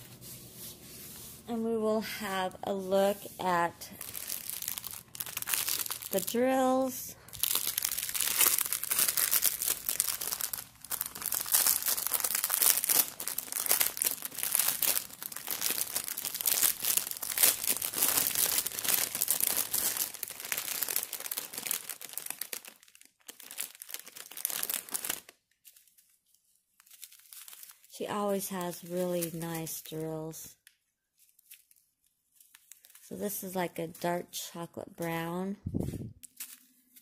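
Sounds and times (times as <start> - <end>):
plastic wrapping crinkling: 2.7 - 34.0, 34.9 - 37.0.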